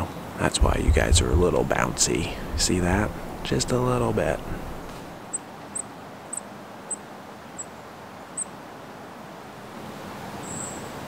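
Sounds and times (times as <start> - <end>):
woodland ambience hiss: 0.0 - 11.0.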